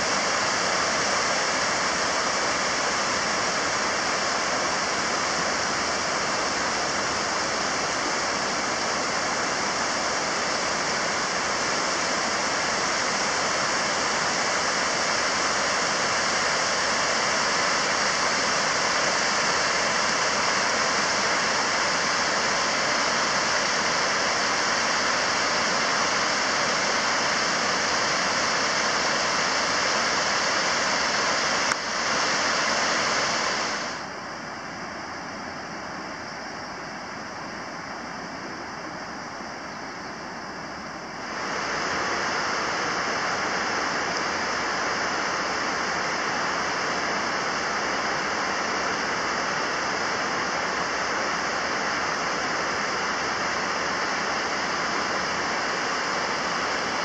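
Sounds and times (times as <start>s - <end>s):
water rushing over weir stones: 0.0s - 34.2s, 41.0s - 57.0s.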